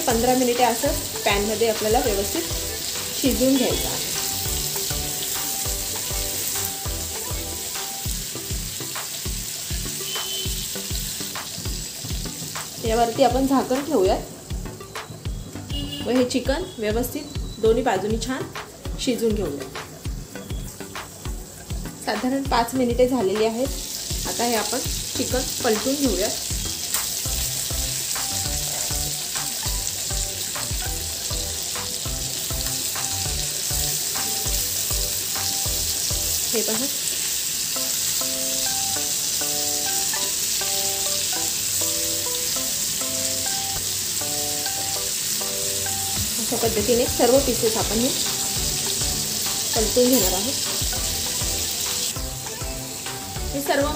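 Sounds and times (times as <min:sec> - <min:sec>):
background music with low beat: 0:00.0 - 0:36.4, 0:45.9 - 0:53.9
chicken sizzling in pan: 0:00.0 - 0:53.9.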